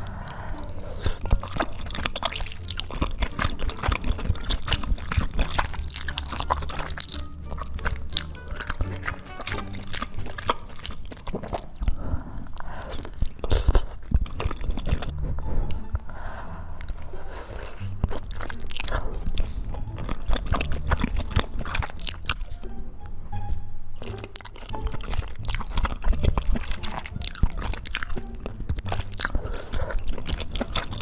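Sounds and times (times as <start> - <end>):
wet chewing and mouth sounds: 0.0 - 22.9, 24.0 - 31.0
background music: 0.0 - 31.0.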